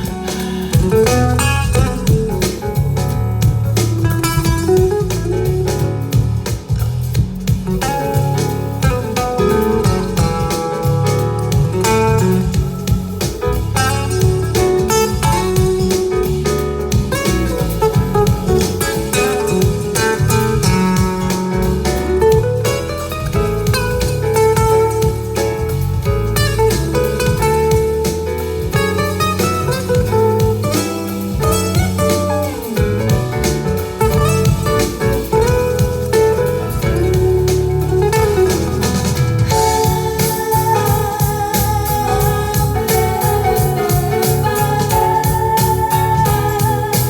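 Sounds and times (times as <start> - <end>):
guitar music over loudspeakers: 0.0 - 47.0.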